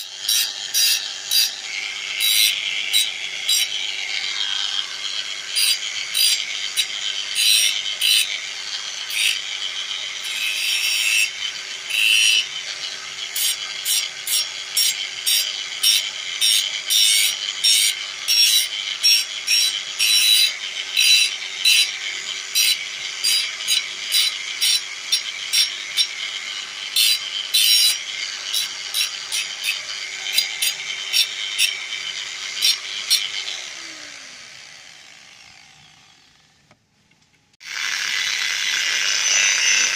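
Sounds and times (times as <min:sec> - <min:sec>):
harsh grinding strokes: 0:00.0 - 0:36.6, 0:37.6 - 0:39.9
grinder motor winding down: 0:00.0 - 0:36.7, 0:37.6 - 0:39.9
angle grinder motor humming: 0:00.0 - 0:36.8, 0:37.6 - 0:39.9.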